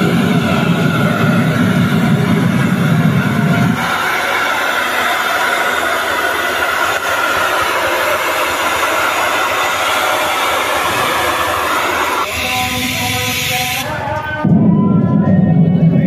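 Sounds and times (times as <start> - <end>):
loud steady hiss: 0.0 - 14.2.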